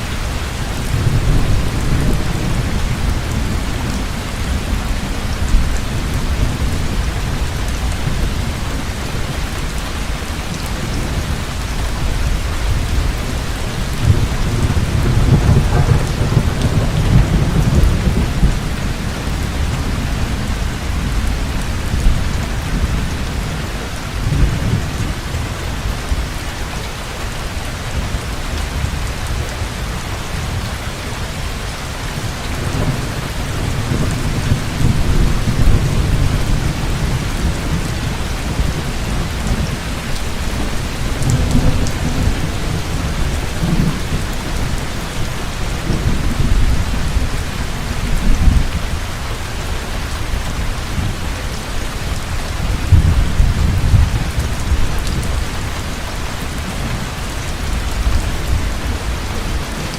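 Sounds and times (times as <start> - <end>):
heavy rain: 0.0 - 59.9
thunder rumbling: 0.1 - 9.9, 10.6 - 26.4, 27.9 - 59.9.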